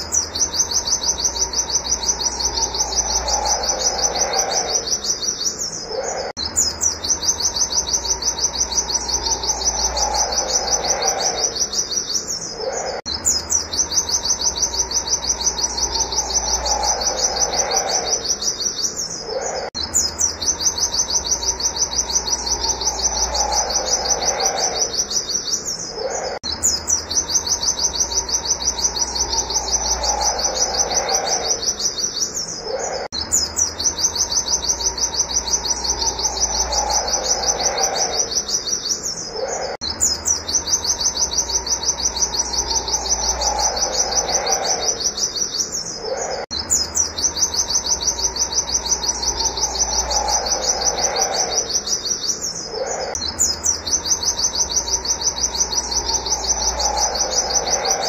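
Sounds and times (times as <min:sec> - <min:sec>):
bird singing high rapid notes: 0:00.0 - 0:58.0.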